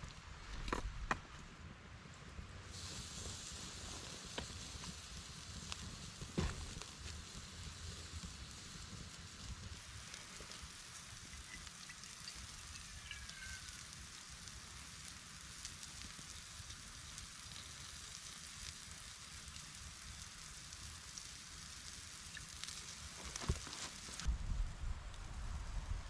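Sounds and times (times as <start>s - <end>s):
steak sizzling on a grill: 2.6s - 24.3s
small pops and crackles: 2.8s - 24.3s.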